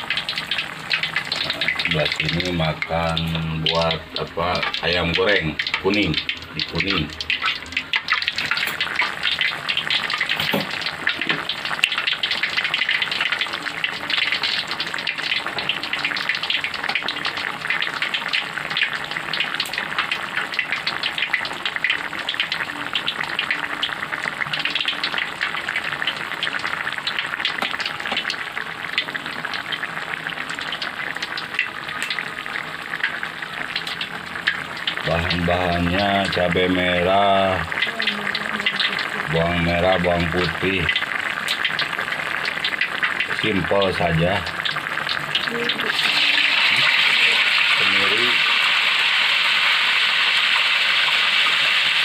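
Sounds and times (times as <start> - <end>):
chilies sizzling in oil: 0.0 - 52.0.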